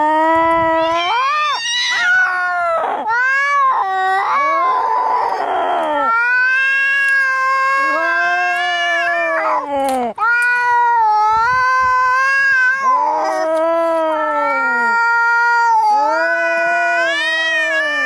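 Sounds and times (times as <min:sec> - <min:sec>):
cats yowling and fighting: 0:00.0 - 0:18.0.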